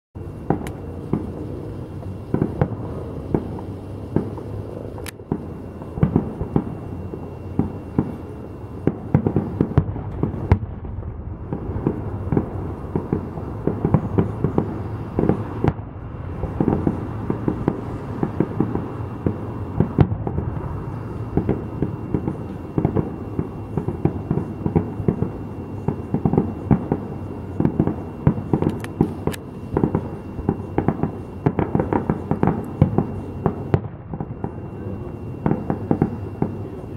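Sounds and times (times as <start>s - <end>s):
fireworks booming and cracking: 0.3s - 36.9s.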